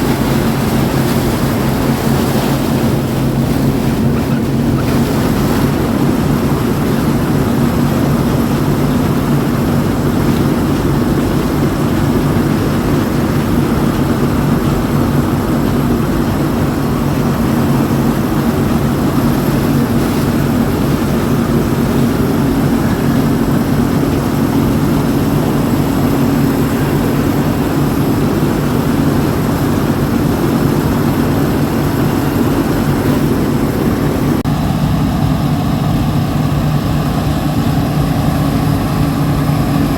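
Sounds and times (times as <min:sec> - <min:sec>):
machinery engine droning: 0:00.0 - 0:39.9.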